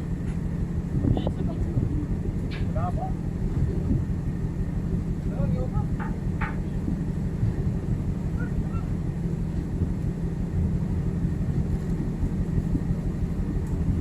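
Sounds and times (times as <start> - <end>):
ship machinery drone: 0.0 - 14.0.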